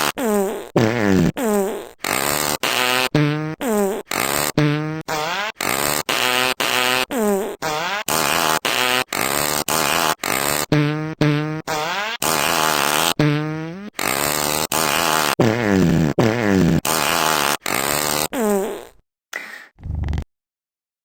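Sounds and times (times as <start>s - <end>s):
cartoon fart sound effects: 0.0s - 20.3s.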